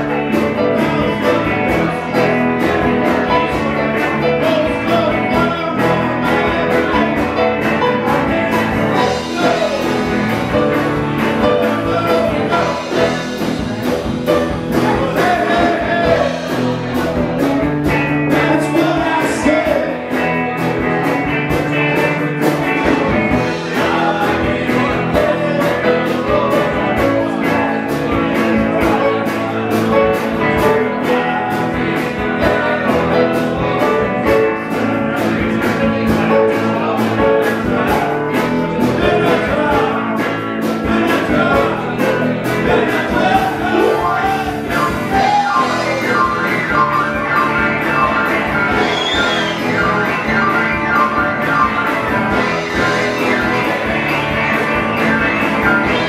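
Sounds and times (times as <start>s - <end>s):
live rock band with singer: 0.0s - 56.0s.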